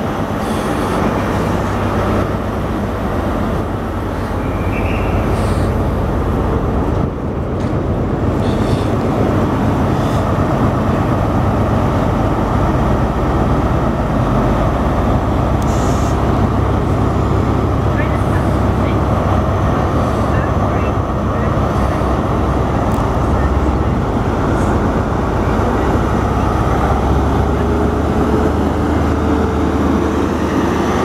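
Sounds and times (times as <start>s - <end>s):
diesel engines idling: 0.0s - 31.0s.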